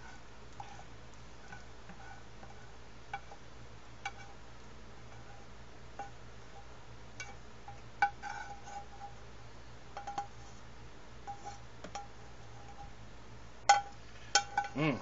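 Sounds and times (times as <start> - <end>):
spatula scraping and knocking pan: 0.0 - 4.4, 5.1 - 9.2, 9.9 - 10.6, 11.2 - 12.9, 13.7 - 14.8.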